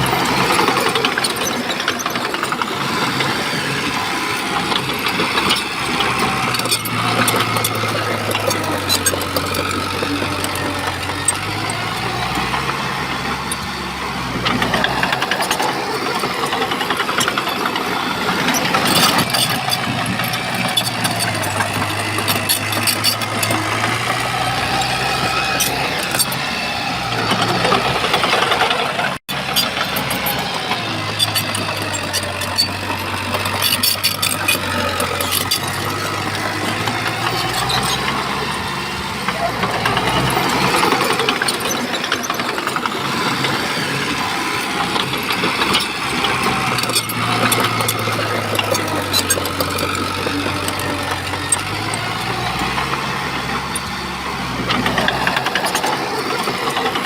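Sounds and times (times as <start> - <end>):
bulldozer diesel engine working: 0.0 - 57.0
clanks and rattles: 0.0 - 57.0.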